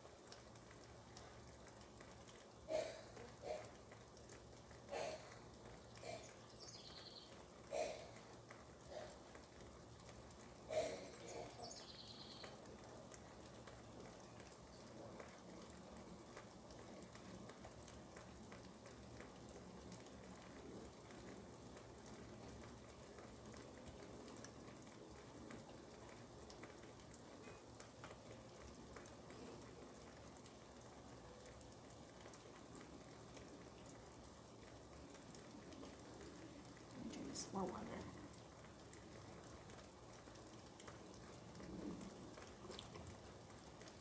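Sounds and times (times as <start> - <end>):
faint rain falling: 0.0 - 44.0.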